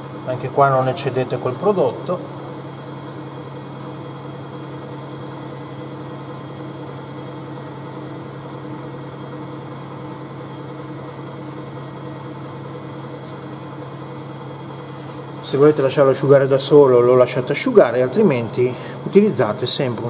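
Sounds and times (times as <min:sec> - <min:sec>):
faint high whining tones: 0:00.0 - 0:20.0
low machine hum: 0:00.0 - 0:20.0.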